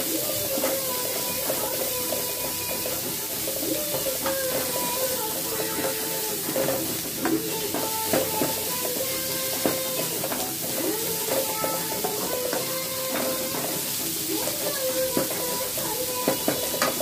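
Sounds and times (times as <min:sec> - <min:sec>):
onions sizzling in oil: 0:00.0 - 0:17.0
spatula clicking against pan: 0:00.0 - 0:17.0
metal spatula scraping pan: 0:00.4 - 0:17.0.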